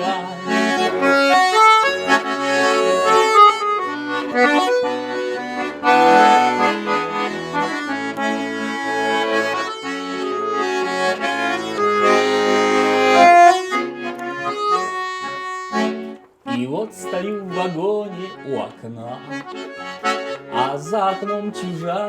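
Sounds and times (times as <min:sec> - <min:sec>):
accordion playing folk melody: 0:00.0 - 0:22.0.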